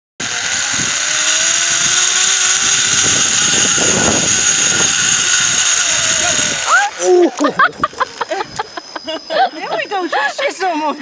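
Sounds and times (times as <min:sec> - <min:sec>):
zipline pulleys whirring on cable: 0:00.2 - 0:10.3.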